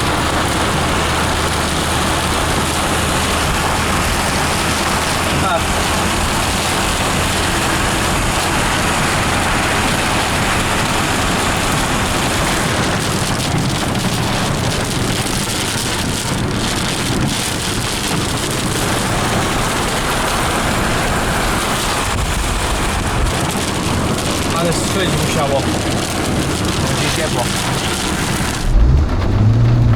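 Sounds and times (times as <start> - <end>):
heavy rain drumming on car: 0.0 - 29.9
tyre and road noise: 0.0 - 29.9.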